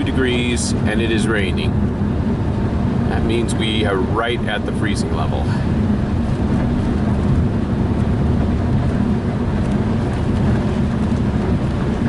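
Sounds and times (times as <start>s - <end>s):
car driving on wet highway: 0.0s - 12.0s.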